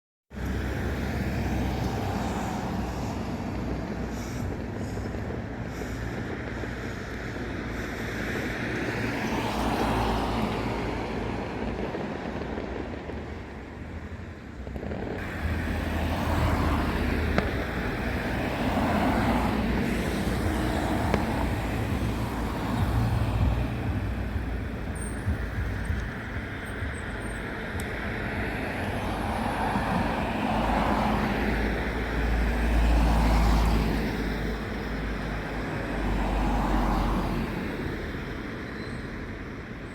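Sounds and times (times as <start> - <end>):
background traffic noise: 0.3 - 39.9
cars passing: 0.3 - 39.9.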